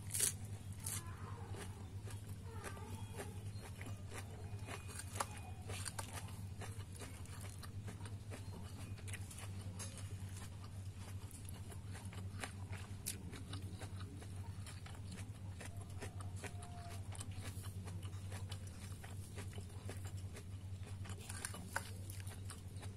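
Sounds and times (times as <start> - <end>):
steady low hum: 0.0 - 22.9
chewing clicks: 0.1 - 22.9.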